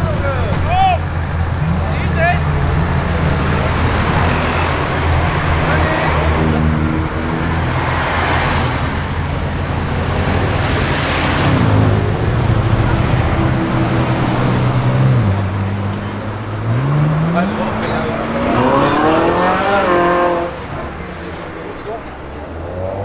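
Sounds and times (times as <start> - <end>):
car engines in slow traffic: 0.0 - 23.0
car passing by: 0.0 - 23.0.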